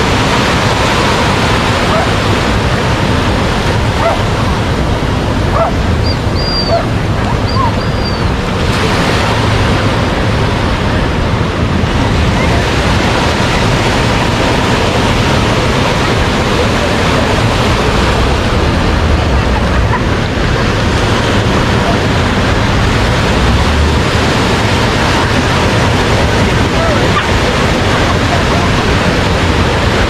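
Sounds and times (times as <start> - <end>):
ocean surf breaking: 0.0 - 30.0
wind on microphone: 0.0 - 30.0.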